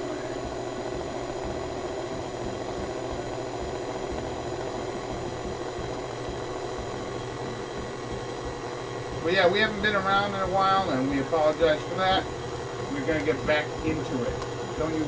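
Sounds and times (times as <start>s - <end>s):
stand mixer motor hum: 0.0s - 15.0s.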